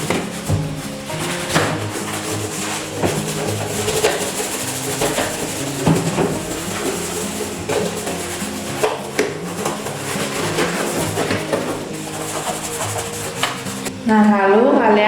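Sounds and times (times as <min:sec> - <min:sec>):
toothbrush scrubbing plastic: 0:00.0 - 0:14.0
instrumental background music: 0:00.0 - 0:15.0.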